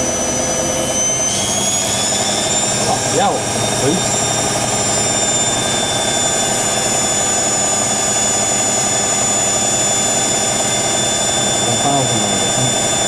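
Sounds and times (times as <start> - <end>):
high-pitched whine: 0.0 - 13.0
washer dryer running: 1.2 - 13.0.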